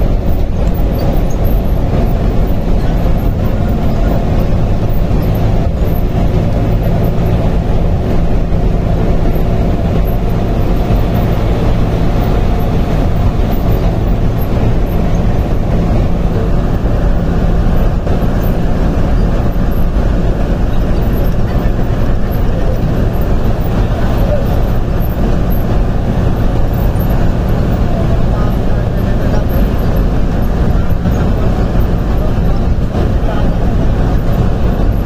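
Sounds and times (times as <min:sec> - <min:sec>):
bus engine and road noise: 0:00.0 - 0:35.0.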